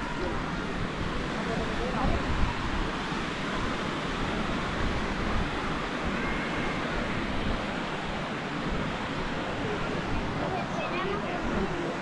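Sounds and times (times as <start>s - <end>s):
sea surf on a beach: 0.0s - 12.0s
wind on the microphone: 0.0s - 12.0s.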